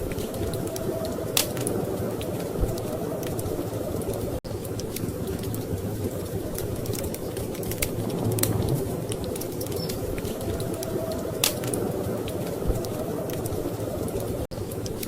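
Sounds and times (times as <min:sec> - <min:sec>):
storm wind rumble: 0:00.0 - 0:15.0
wood fire crackling and popping: 0:00.0 - 0:15.0.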